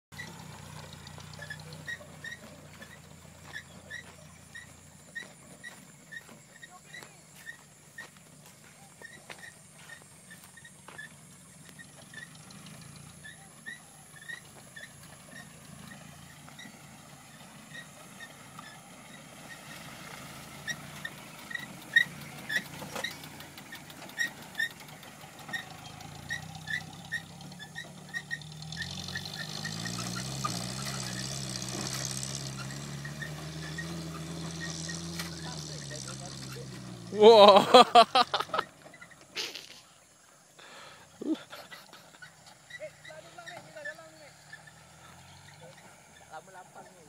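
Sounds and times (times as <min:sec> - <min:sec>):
off-road vehicle engine: 0:00.0 - 0:47.0.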